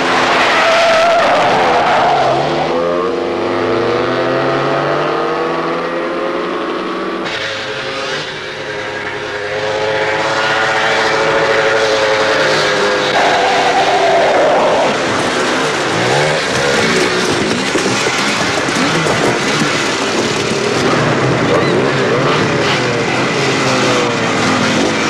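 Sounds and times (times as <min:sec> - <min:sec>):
car engine accelerating hard: 0:02.4 - 0:25.0.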